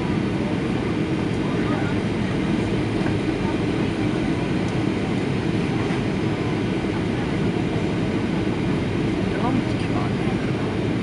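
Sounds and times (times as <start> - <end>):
low drone inside airplane cabin: 0.0 - 11.0.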